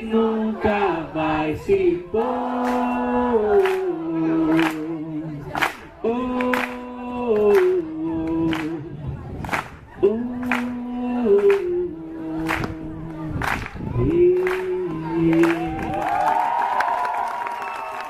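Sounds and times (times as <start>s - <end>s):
group singing a lively song: 0.0s - 15.8s.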